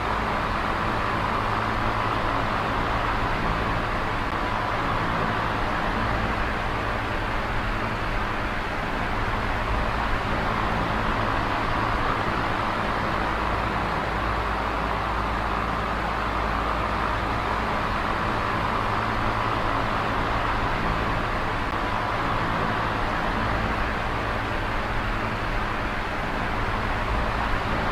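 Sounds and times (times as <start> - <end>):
electric fan whirring: 0.0 - 27.9.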